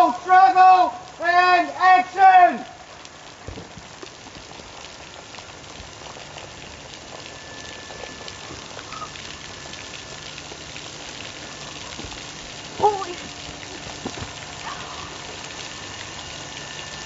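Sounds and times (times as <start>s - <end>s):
rain falling on straw: 0.0s - 17.0s.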